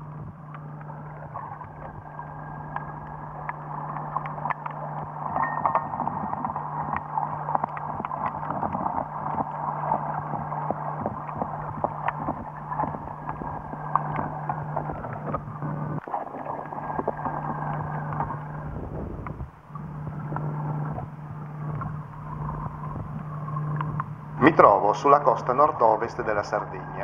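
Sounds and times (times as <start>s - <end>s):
steady low hum: 0.0s - 27.0s
water rushing underwater: 0.0s - 27.0s.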